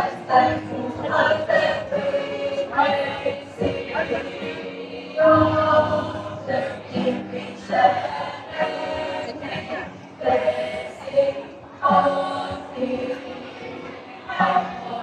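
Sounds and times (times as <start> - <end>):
youth choir singing: 0.0 - 15.0.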